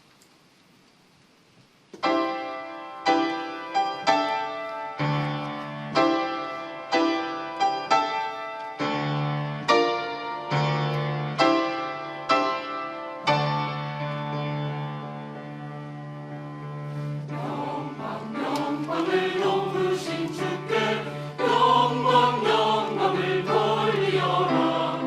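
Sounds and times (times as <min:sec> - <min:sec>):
piano chords: 0:02.0 - 0:25.0.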